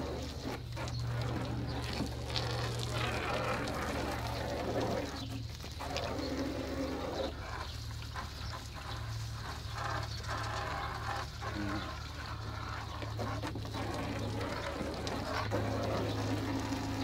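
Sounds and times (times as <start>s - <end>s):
hose water spraying into bucket: 0.0s - 17.0s.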